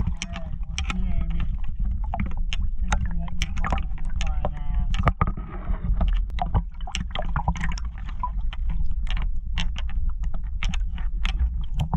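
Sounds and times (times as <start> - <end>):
steady low rumble: 0.0 - 11.9
water drips: 0.0 - 11.9
water sloshing and splashing: 0.0 - 11.9.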